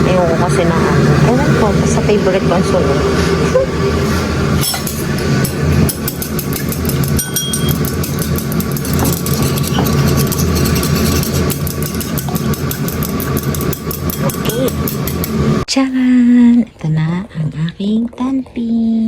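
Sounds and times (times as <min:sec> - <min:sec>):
gas flame rumble: 0:00.0 - 0:15.7.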